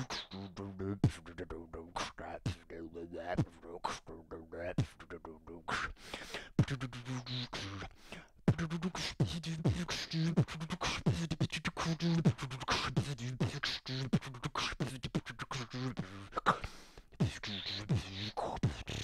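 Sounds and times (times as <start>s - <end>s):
person beatboxing: 0.0s - 19.0s.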